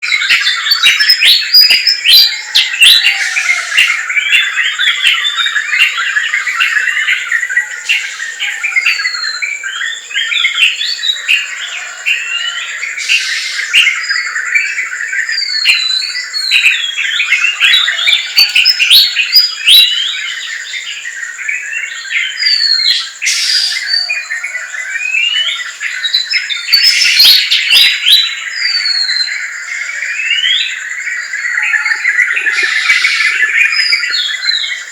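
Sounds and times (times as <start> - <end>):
forest birds chirping: 0.0 - 34.9.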